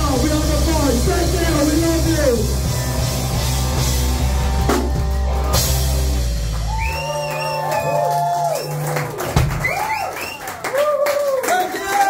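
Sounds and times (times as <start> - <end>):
live rock band: 0.0 - 10.6.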